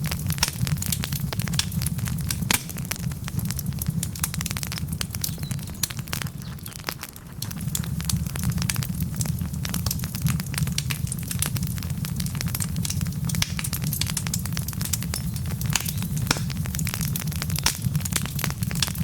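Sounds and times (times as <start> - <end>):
burning logs crackling and popping: 0.0 - 19.0
low rumble of flames: 0.0 - 19.0.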